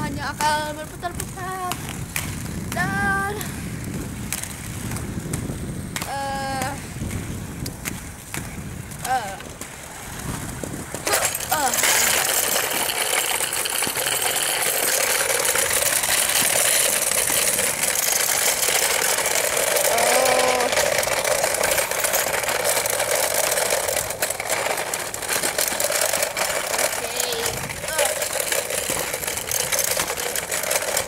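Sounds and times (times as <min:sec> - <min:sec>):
skate wheels rolling on concrete: 0:00.0 - 0:31.0.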